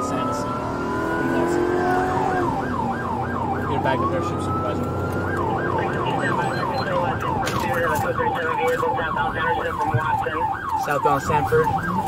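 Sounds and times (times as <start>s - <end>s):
car engine: 0.0s - 10.0s
police siren on yelp: 0.0s - 12.0s
road noise: 0.0s - 12.0s.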